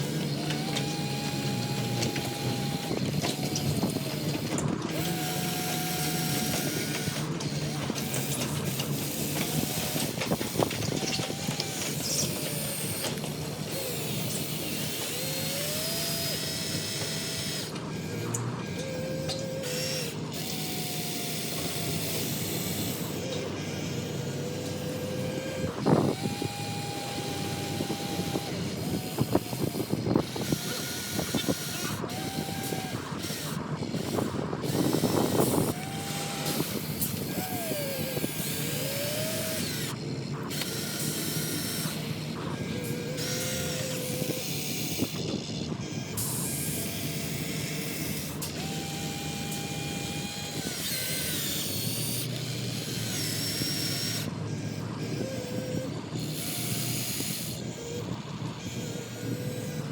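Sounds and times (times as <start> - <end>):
small electric motors whining: 0.0 - 59.9.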